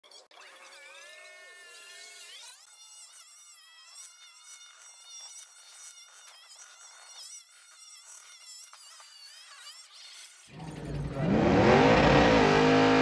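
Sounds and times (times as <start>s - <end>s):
high-pitched motor buzz: 0.1s - 13.0s.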